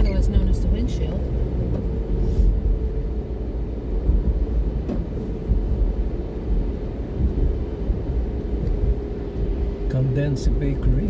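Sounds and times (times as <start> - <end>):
car cabin road rumble: 0.0 - 11.0
windshield wipers sweeping: 0.0 - 11.0.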